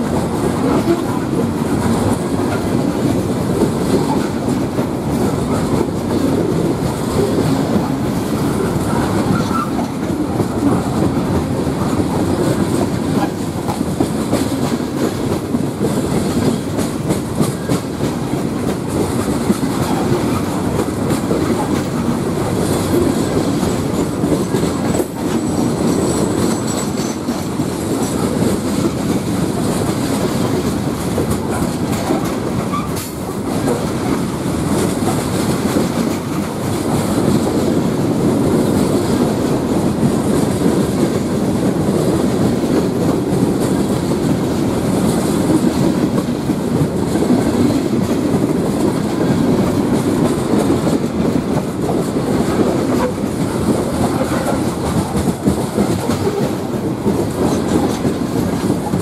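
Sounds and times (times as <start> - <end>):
freight train rolling past: 0.0 - 59.0
wheels clicking over rail joints: 0.0 - 59.0.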